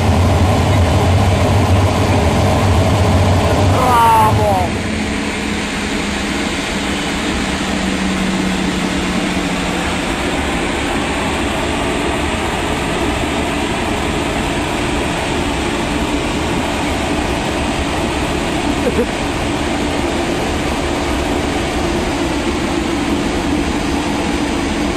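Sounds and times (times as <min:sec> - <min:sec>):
jet engine running: 0:00.0 - 0:24.9
low hum: 0:00.0 - 0:24.9.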